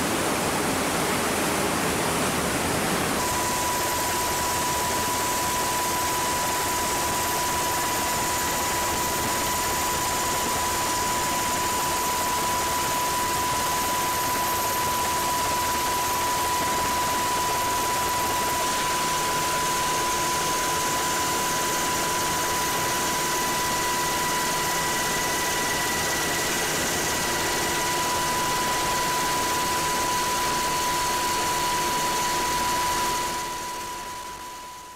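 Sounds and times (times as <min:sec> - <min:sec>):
engine roar with high whine: 0:00.1 - 0:34.8.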